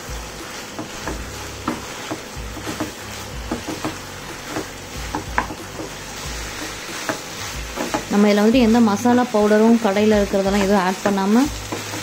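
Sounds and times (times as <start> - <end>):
food sizzling: 0.0 - 12.0
spatula scraping pan: 0.0 - 12.0.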